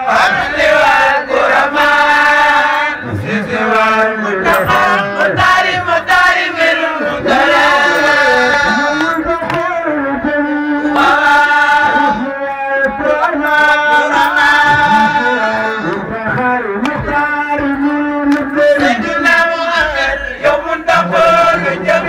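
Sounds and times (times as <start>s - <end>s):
man chanting into microphone: 2.9s - 5.9s, 7.0s - 22.0s.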